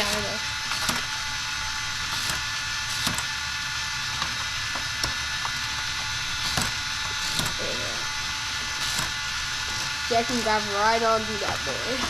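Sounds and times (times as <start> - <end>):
small electric motors whirring: 0.0 - 12.0.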